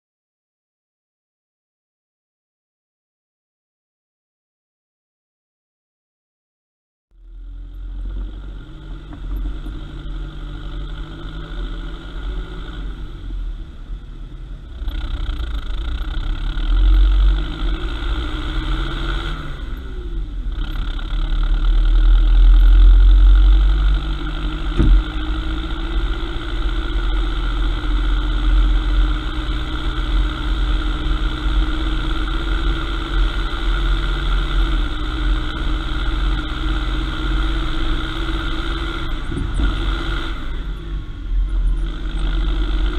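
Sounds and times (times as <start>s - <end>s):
engine deep rumble: 7.1s - 42.9s.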